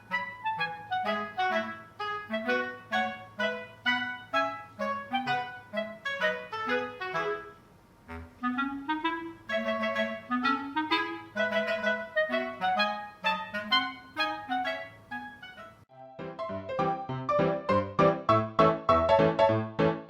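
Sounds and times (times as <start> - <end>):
bouncy woodwind melody: 0.0 - 19.8.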